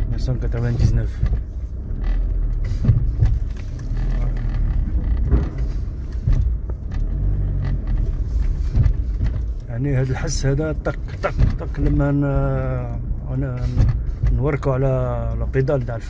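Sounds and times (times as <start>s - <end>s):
brake clicks and knocks: 0.0s - 16.0s
car engine running: 0.0s - 16.0s.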